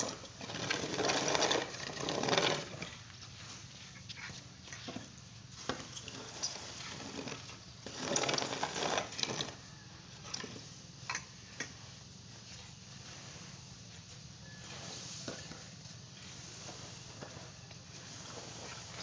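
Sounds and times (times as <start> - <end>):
rake scraping grain: 0.0 - 19.0.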